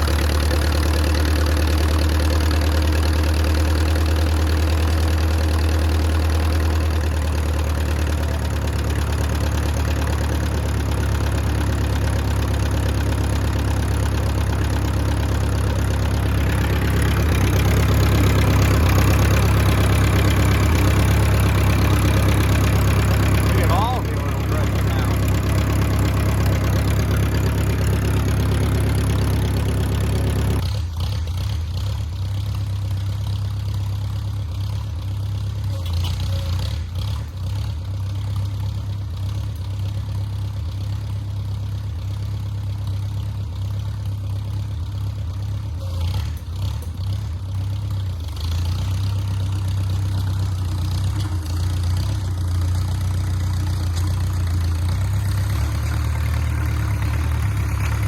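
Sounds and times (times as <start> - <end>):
bulldozer engine idling: 0.0 - 58.0.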